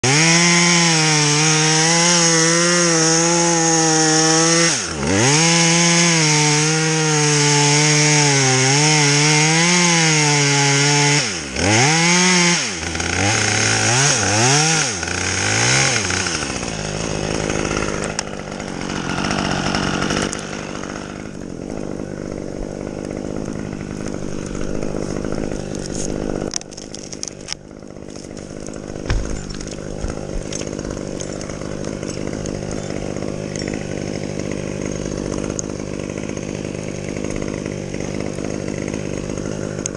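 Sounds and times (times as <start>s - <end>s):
chainsaw cutting at high revs: 0.0s - 39.9s.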